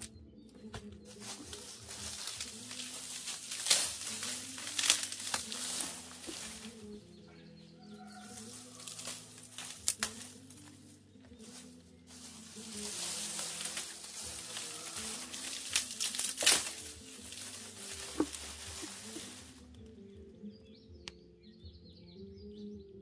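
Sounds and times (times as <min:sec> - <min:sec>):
twigs crackling and snapping: 0:00.0 - 0:07.2, 0:07.8 - 0:20.0
soft background music: 0:00.0 - 0:23.0.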